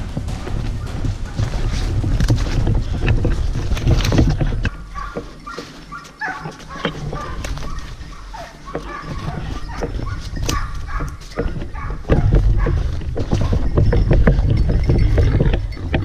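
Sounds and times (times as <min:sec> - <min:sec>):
footsteps: 0:00.0 - 0:16.0
dogs barking and yelping: 0:02.8 - 0:16.0.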